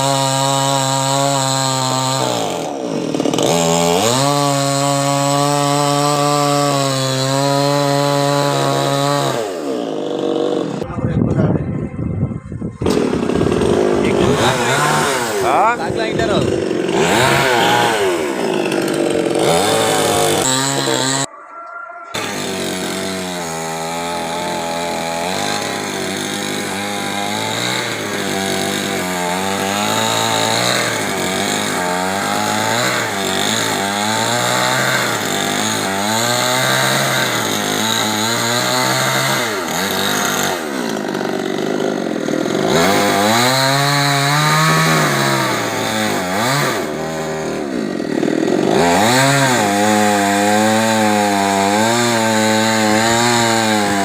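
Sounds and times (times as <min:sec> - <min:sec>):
chainsaw cutting: 0:00.0 - 0:10.8, 0:12.8 - 0:21.3, 0:22.1 - 0:54.0.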